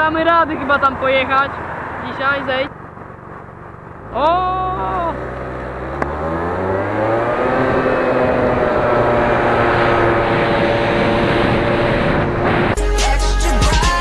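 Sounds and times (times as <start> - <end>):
engine accelerating: 0.0 - 12.8
road and wind noise: 0.0 - 12.8.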